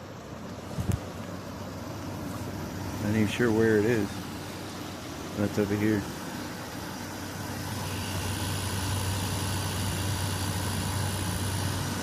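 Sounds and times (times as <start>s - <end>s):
air conditioner compressor hum: 0.0s - 12.0s
air conditioner fan noise: 0.0s - 12.0s.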